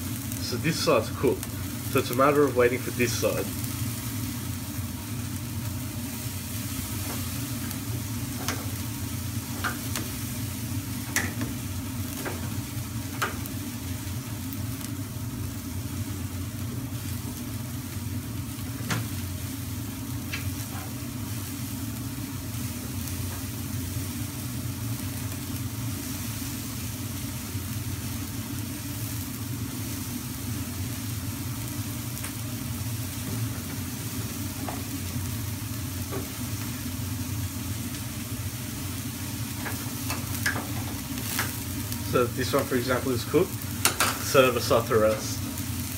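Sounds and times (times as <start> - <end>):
kebabs sizzling on a grill: 0.0 - 45.9.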